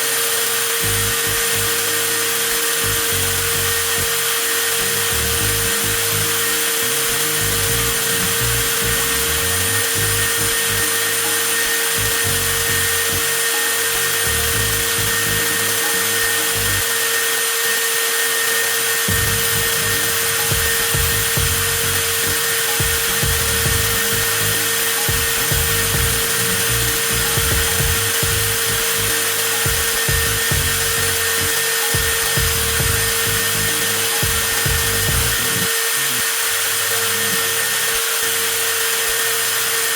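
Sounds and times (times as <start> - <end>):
angle grinder whining: 0.0 - 39.9.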